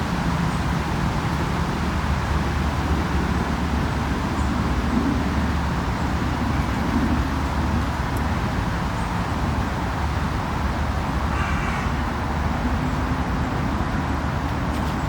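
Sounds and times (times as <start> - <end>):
low engine hum: 0.0 - 15.0
road traffic passing: 0.0 - 15.0.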